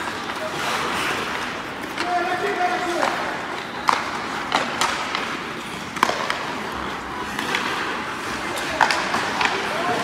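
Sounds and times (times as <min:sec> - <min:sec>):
hockey sticks clacking puck: 0:00.0 - 0:10.0.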